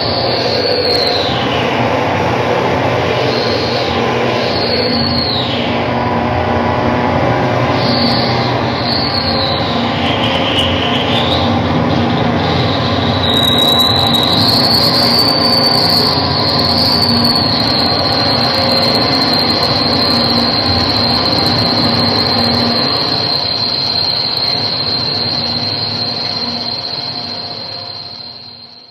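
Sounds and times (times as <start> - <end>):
electronic noise drone: 0.0 - 28.9
high whistling tone: 0.0 - 28.9.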